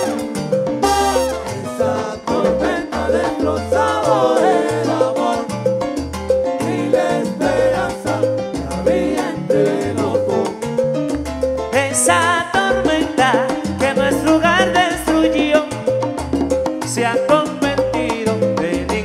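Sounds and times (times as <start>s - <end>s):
salsa band playing: 0.0s - 19.0s.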